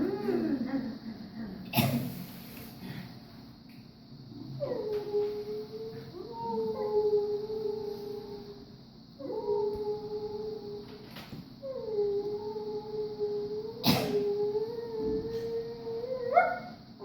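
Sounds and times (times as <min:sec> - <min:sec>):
voice holding howl-like tones: 0:00.0 - 0:01.7, 0:04.2 - 0:17.0.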